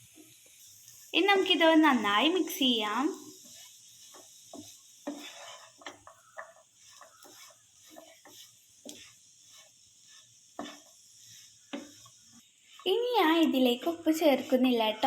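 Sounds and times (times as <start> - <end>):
utensil scraping and knocking on pan: 1.2 - 15.0.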